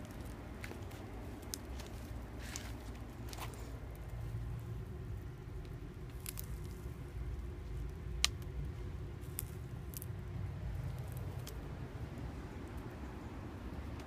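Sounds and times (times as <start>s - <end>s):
tortoises biting leaves: 0.0s - 13.1s
low steady rumble: 0.0s - 14.0s.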